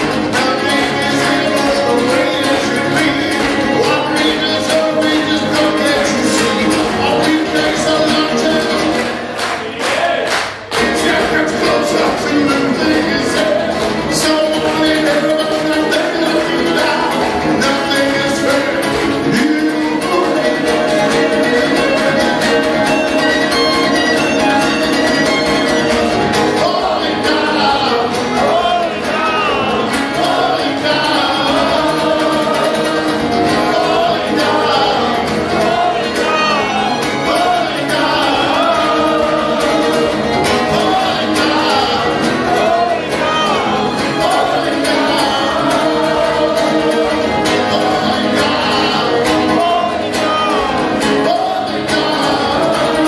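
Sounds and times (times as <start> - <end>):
man singing: 0.0 - 9.2, 9.8 - 53.0
acoustic guitar: 0.0 - 53.0.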